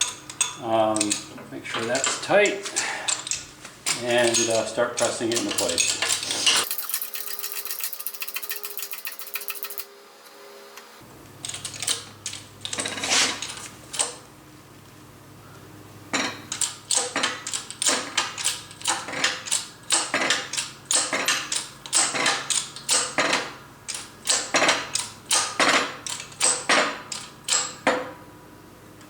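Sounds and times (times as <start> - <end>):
metallic clicks and clanks: 0.0 - 9.9, 11.4 - 14.2, 16.2 - 28.2.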